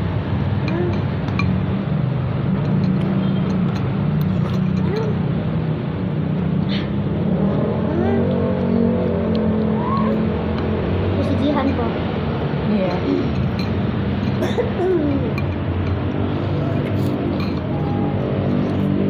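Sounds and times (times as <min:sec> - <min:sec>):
rumble of engines: 0:00.0 - 0:19.0.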